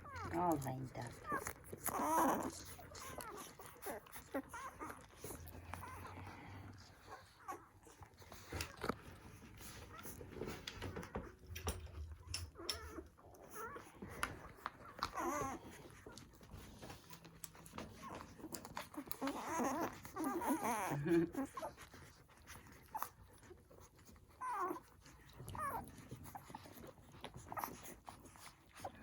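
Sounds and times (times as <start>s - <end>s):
puppies squeaking and whimpering: 0.0s - 29.0s.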